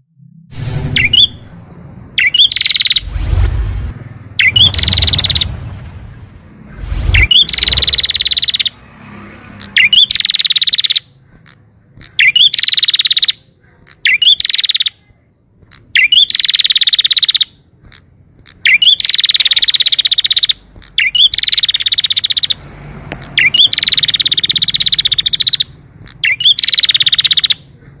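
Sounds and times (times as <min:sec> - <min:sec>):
canary singing: 0:00.9 - 0:03.1, 0:04.2 - 0:05.7, 0:07.1 - 0:28.0.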